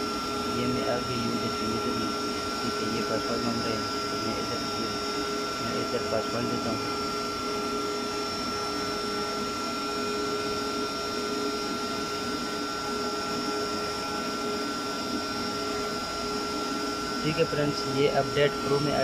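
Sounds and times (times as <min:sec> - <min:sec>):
power cabinet hum and hiss: 0:00.0 - 0:19.0
whining fan tones: 0:00.0 - 0:19.0.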